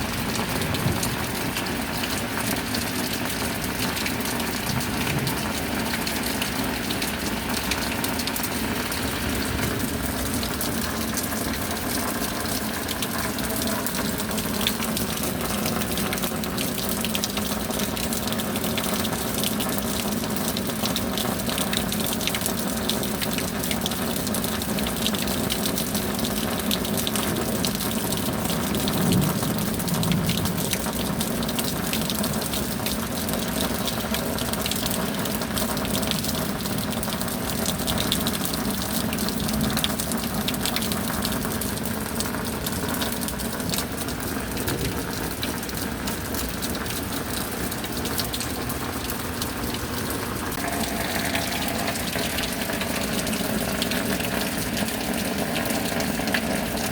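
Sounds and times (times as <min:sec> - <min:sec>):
gushing pouring water: 0:00.0 - 0:56.9
steady rain: 0:00.0 - 0:56.9.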